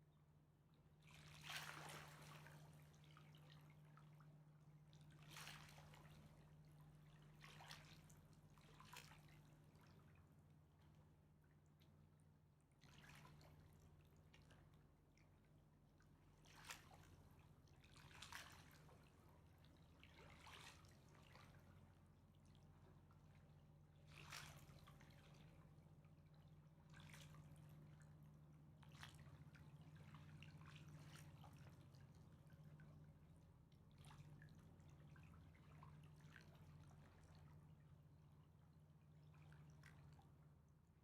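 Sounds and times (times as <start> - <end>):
low steady hum: 0.0 - 41.0
water lapping and dripping: 0.7 - 41.0.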